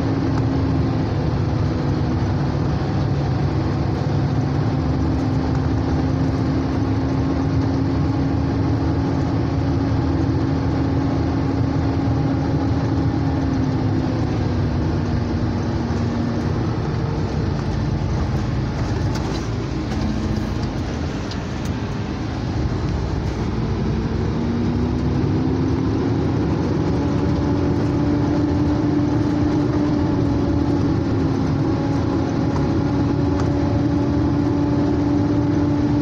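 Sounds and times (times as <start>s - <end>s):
low road rumble: 0.0s - 36.0s
truck diesel engine running: 0.0s - 36.0s.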